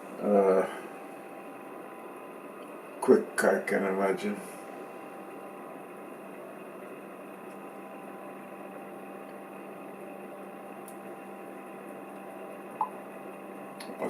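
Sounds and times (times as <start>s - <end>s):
computer fans whirring: 0.0s - 14.0s.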